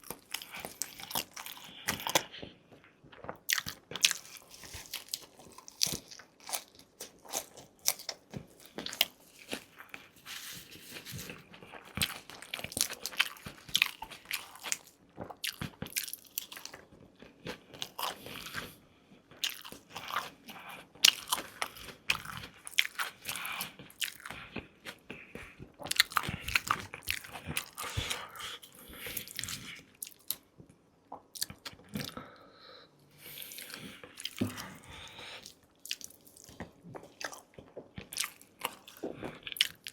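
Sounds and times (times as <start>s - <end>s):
crunchy bites and wet chewing: 0.0s - 2.5s, 3.1s - 18.8s, 19.4s - 30.4s, 31.1s - 32.2s, 33.2s - 39.9s.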